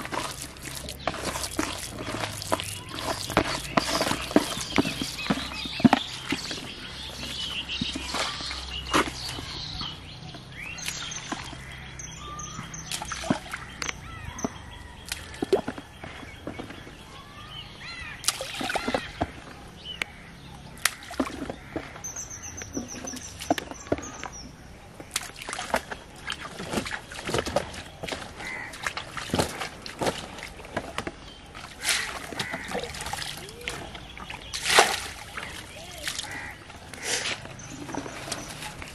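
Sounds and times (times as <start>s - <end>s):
birds calling: 0.0s - 38.9s
water splashing and sloshing: 0.0s - 38.9s.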